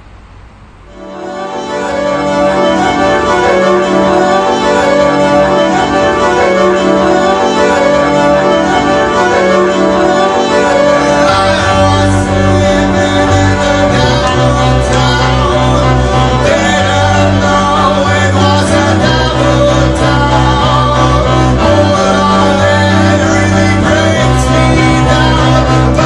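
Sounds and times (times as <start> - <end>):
low bass notes: 0.0 - 26.0
sustained layered instrumental tones: 0.0 - 26.0.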